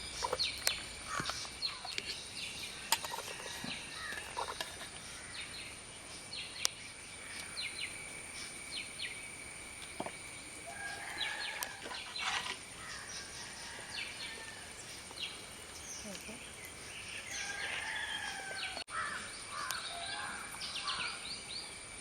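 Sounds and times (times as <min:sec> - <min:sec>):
birds chirping: 0:00.0 - 0:21.8
steady high-pitched hiss: 0:00.0 - 0:22.0.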